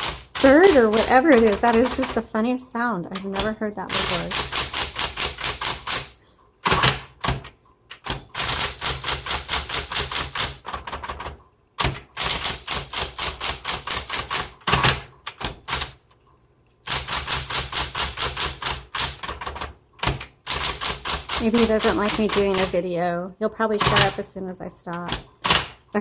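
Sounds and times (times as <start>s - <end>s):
electric typewriter typing: 0.0s - 2.3s, 3.1s - 16.0s, 16.9s - 22.9s, 23.7s - 25.9s.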